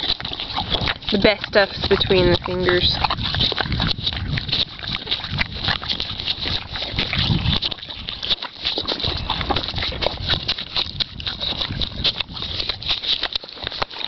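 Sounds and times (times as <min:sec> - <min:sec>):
horse licking a hand: 0:00.0 - 0:14.0.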